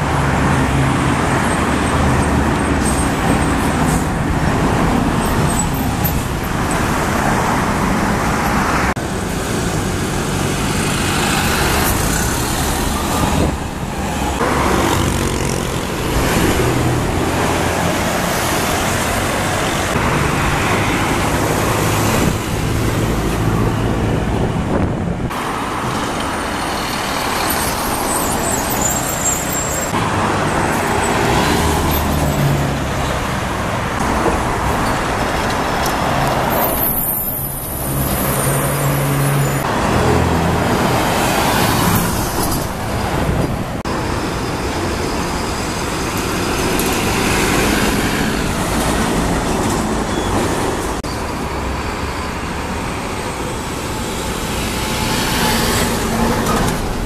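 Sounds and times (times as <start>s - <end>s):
diesel buses passing: 0.0s - 57.0s
traffic noise: 0.0s - 57.0s.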